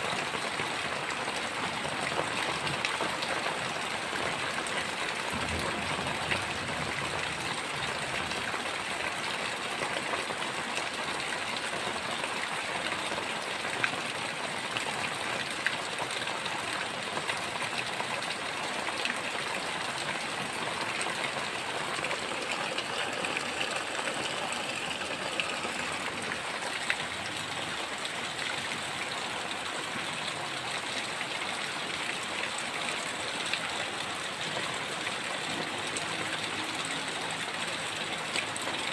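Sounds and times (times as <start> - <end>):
heavy rain falling: 0.0 - 38.9
raindrops ticking close by: 0.0 - 38.9.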